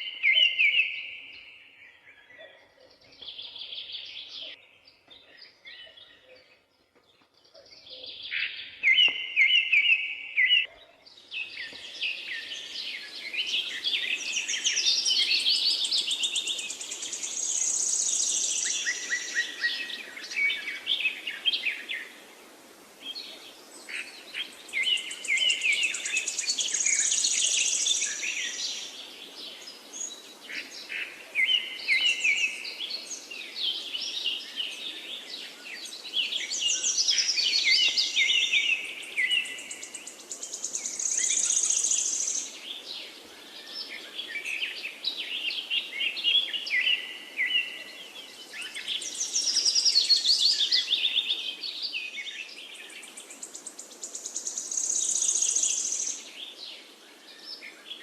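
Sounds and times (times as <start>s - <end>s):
songbirds chirping and trilling: 0.0s - 58.0s
background hiss: 6.9s - 58.0s.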